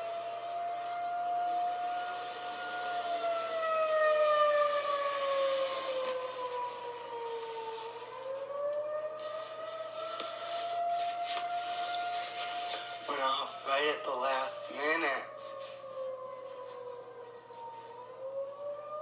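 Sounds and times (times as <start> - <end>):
tornado warning siren: 0.0 - 19.0.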